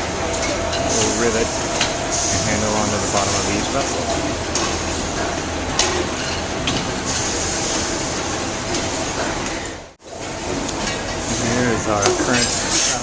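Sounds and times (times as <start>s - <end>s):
factory machinery noise: 0.0s - 13.0s
riveting machine clanks: 0.0s - 13.0s.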